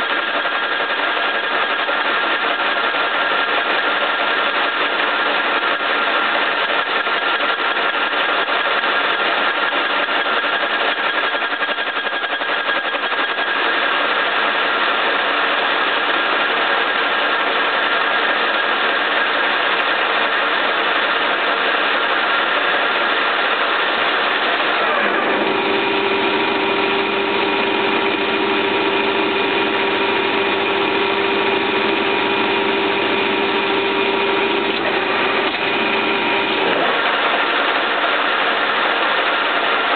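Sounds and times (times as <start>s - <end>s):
cutter machining workpiece: 0.0s - 39.9s
lathe gearbox whining: 0.0s - 39.9s.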